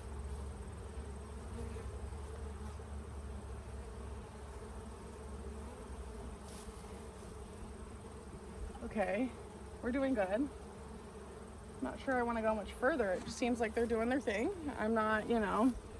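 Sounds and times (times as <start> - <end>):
honeybees buzzing: 0.0 - 15.9.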